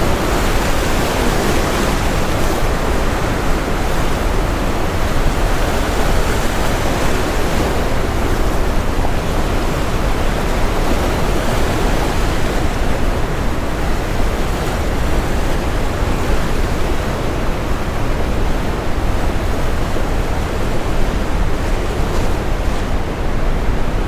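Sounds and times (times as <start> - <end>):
ocean surf: 0.0 - 24.0.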